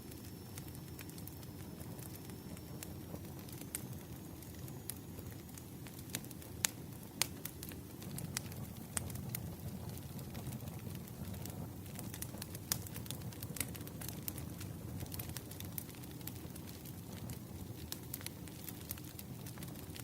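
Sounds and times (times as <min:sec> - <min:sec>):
crackles and pops of fire: 0:00.0 - 0:20.0
firewood burning rumble: 0:00.0 - 0:20.0.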